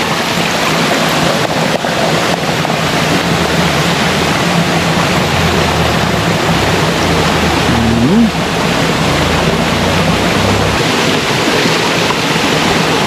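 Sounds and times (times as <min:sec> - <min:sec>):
stream water rushing: 0:00.0 - 0:13.0
low engine drone: 0:01.2 - 0:13.0.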